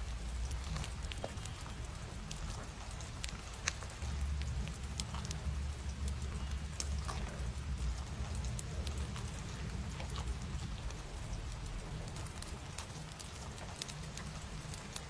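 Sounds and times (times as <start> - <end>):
low steady rumble: 0.0 - 15.0
paper crinkling and ticking: 0.0 - 15.0.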